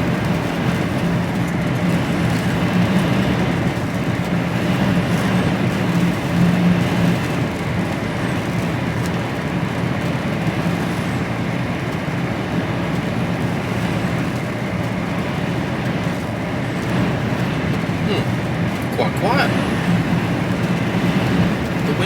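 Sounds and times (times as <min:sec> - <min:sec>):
diesel engine drone: 0:00.0 - 0:22.0
road noise: 0:00.0 - 0:22.0.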